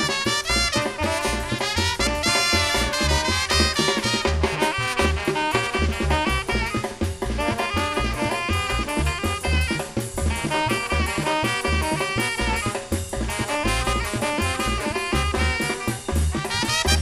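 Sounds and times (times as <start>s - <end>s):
bass drum and percussion: 0.0s - 17.0s
brass and saxophone: 0.0s - 17.0s.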